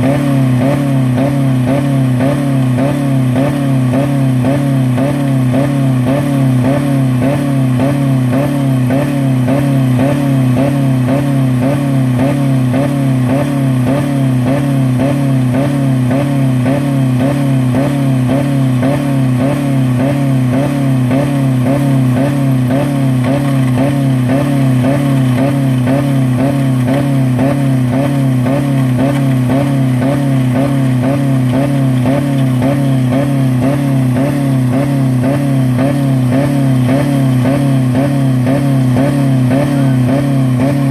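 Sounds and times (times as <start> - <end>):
car engine revving at limiter: 0.0 - 40.9.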